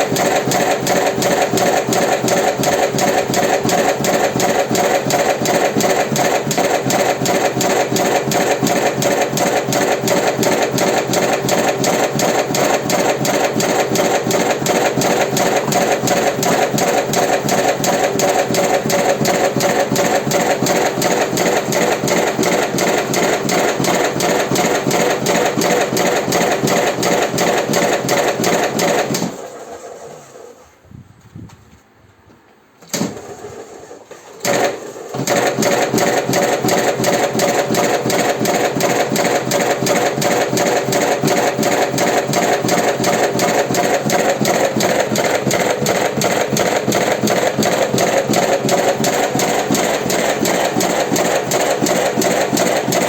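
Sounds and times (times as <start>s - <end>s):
cigarette-rolling machine running: 0.0s - 30.8s, 33.0s - 53.0s.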